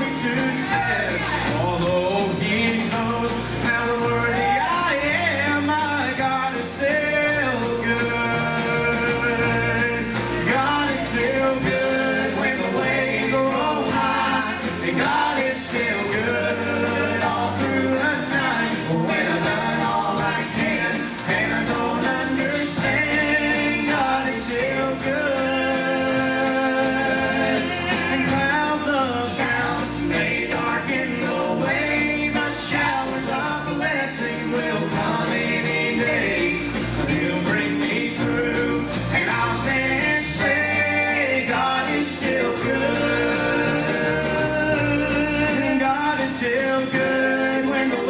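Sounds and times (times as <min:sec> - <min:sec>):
electric bass: 0:00.0 - 0:48.0
strummed acoustic guitar: 0:00.0 - 0:48.0.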